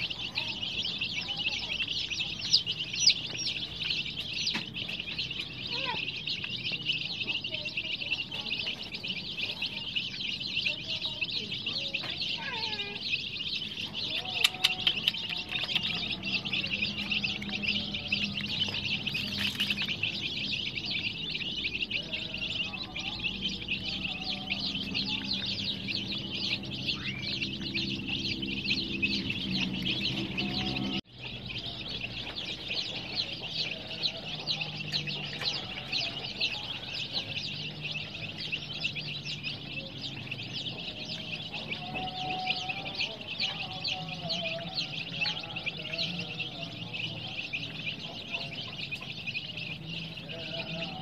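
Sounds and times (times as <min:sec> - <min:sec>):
chicks peeping: 0:00.0 - 0:51.0.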